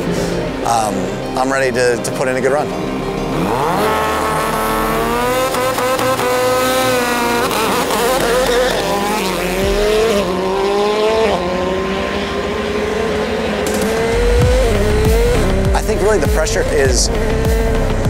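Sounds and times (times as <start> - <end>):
race car accelerating through gears: 3.3 - 18.0.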